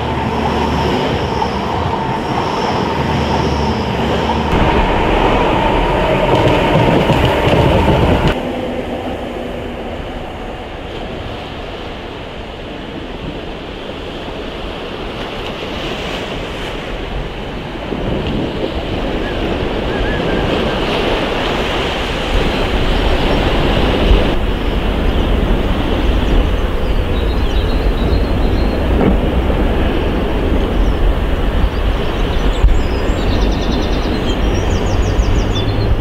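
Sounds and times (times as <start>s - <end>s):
diesel train approaching: 0.0s - 36.0s
sea surf: 0.0s - 36.0s
train running loudly: 0.0s - 36.0s
wind on microphone: 0.0s - 36.0s.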